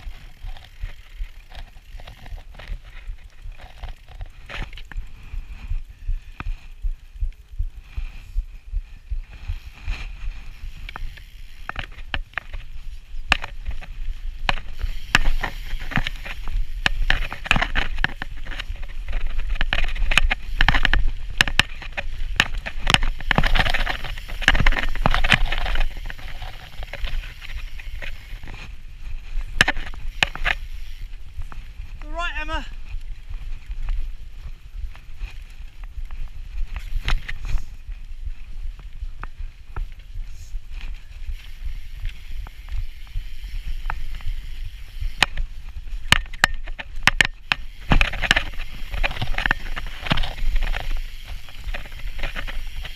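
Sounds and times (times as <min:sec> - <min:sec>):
bike clicking and rattling: 0:00.0 - 0:52.9
bike tyres rumbling: 0:00.0 - 0:52.9.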